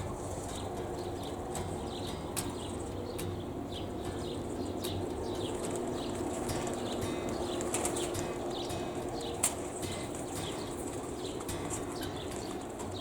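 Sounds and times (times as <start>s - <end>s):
wind rumble: 0.0s - 12.8s
birds chirping: 0.0s - 13.0s.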